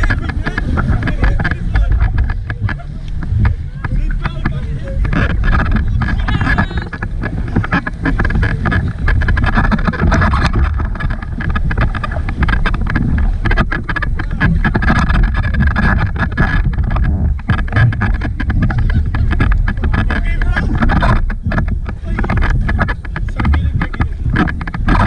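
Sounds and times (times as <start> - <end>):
motorboat running: 0.0 - 25.0
wind buffeting microphone: 0.0 - 25.0.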